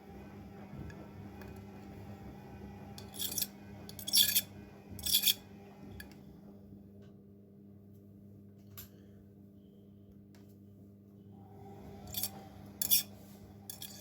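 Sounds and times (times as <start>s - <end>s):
washing machine low hum: 0.0s - 14.0s.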